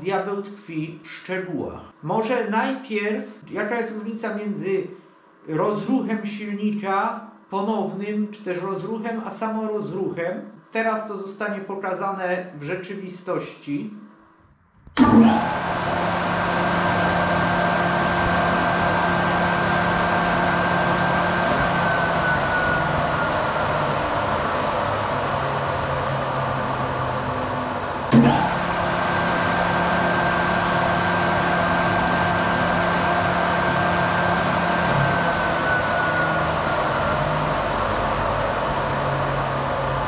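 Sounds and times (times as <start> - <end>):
electric motor hum and fan whine: 0.0 - 40.0.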